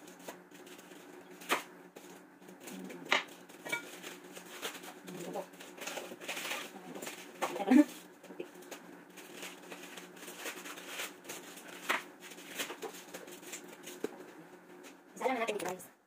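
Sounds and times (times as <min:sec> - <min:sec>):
leaf rustles: 0:00.0 - 0:14.1
steady low hum: 0:00.0 - 0:16.0
knife cutting cabbage: 0:00.1 - 0:14.2.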